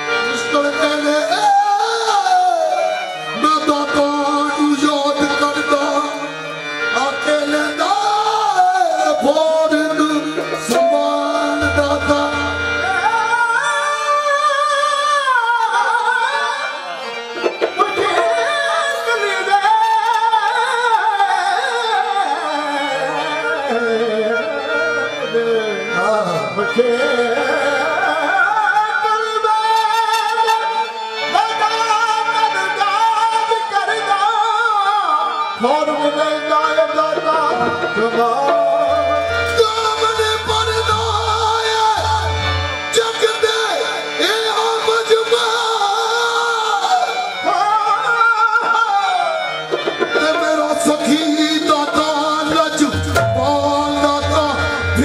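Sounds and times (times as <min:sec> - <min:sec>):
instrumental accompaniment: 0:00.0 - 0:55.0.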